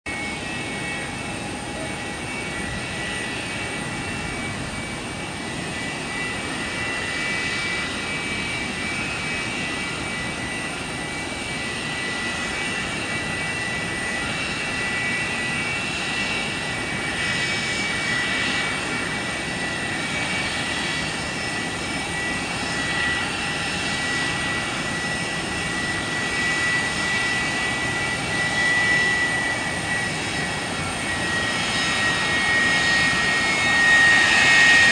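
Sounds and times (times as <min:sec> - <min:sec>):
jet engines rumbling and whining: 0:00.1 - 0:34.9.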